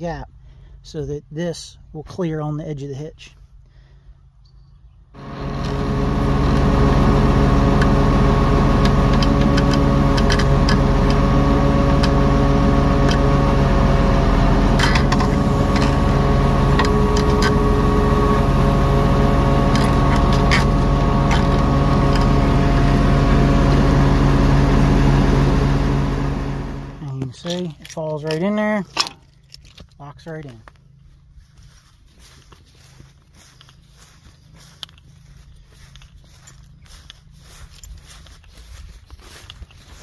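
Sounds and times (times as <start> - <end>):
tractor engine running: 5.2 - 40.0.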